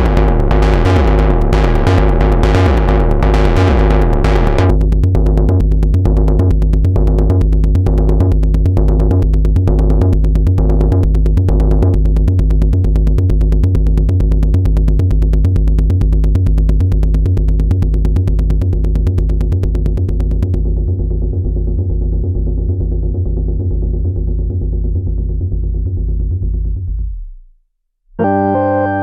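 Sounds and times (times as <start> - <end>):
synthesizer sequenced low notes: 0.0 - 27.2.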